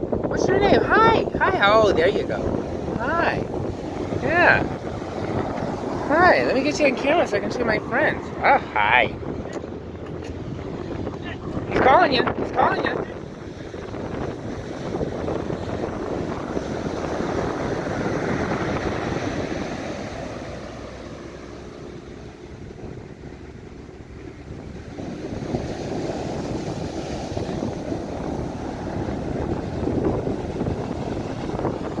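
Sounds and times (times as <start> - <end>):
ocean surf breaking on beach: 0.0 - 32.0
wind rumbling on microphone: 0.0 - 32.0.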